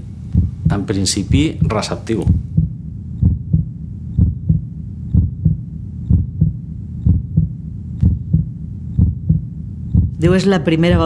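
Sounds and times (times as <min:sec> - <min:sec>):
steady low hum: 0:00.0 - 0:11.0
heartbeat thumps: 0:00.2 - 0:11.0.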